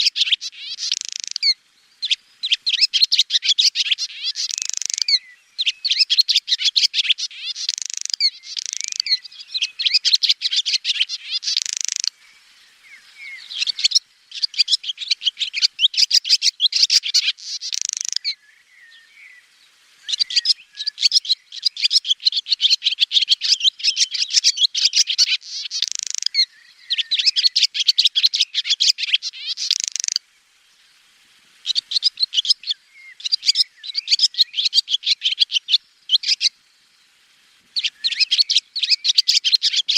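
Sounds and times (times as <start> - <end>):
swallows twittering: 0.0 - 30.2, 31.6 - 37.1, 37.7 - 39.9.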